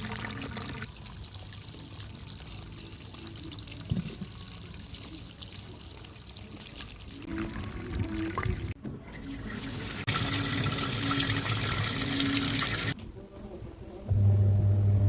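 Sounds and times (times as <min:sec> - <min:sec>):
water running and pouring: 0:00.0 - 0:13.0.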